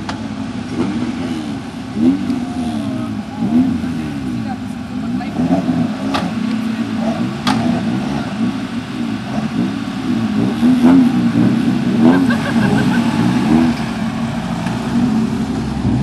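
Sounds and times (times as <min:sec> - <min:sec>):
car engine revving in cabin: 0:00.6 - 0:16.0.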